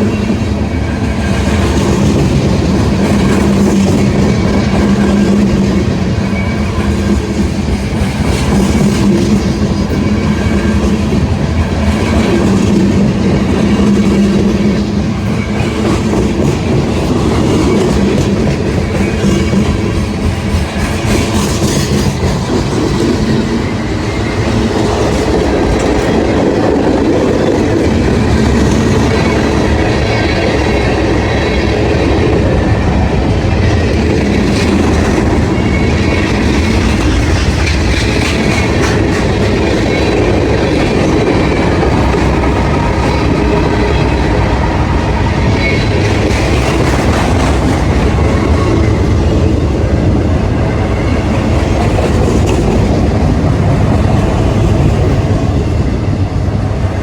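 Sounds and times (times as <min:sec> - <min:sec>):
freight train cars rolling: 0:00.0 - 0:57.0.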